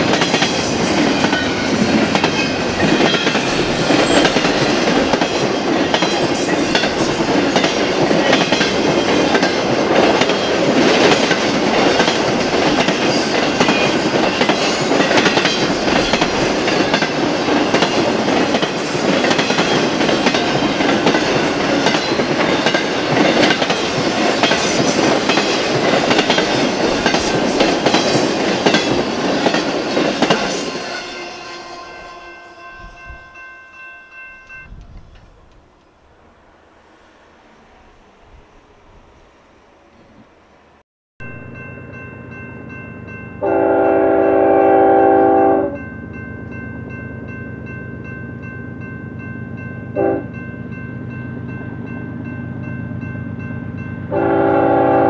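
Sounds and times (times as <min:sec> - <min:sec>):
freight train cars rolling past: 0:00.0 - 0:55.0.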